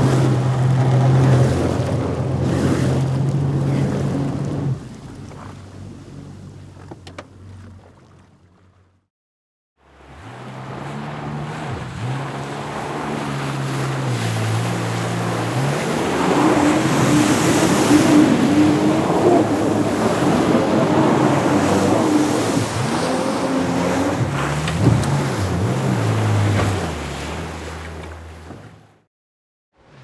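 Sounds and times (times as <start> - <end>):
jet ski engine: 0.0 - 9.0, 9.8 - 29.1, 29.8 - 30.0.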